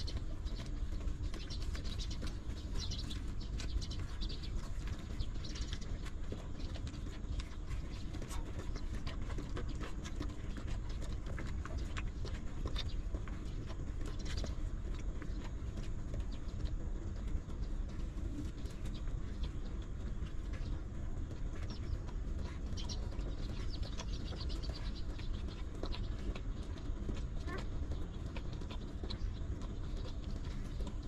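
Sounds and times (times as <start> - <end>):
puppies suckling wet clicks: 0.0 - 31.0
steady low rumble: 0.0 - 31.0.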